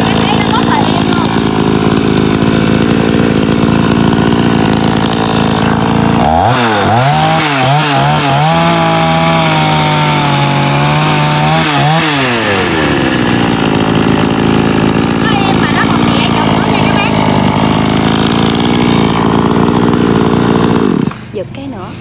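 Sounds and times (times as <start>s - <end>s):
chainsaw idling and revving: 0.0s - 21.8s.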